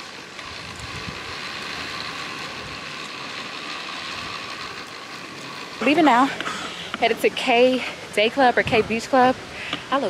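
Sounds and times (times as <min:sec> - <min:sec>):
pulley wheels whirring on cable: 0:00.0 - 0:10.0.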